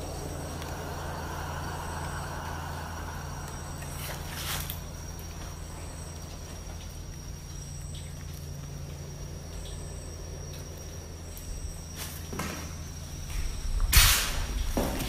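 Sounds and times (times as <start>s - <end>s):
insect high buzz: 0.0s - 15.0s
insect high-pitched trill: 0.0s - 15.0s
low steady hum: 0.0s - 15.0s.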